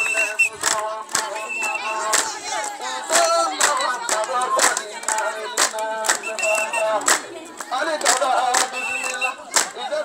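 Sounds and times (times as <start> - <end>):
crowd voices: 0.0 - 10.0
group singing: 0.0 - 10.0.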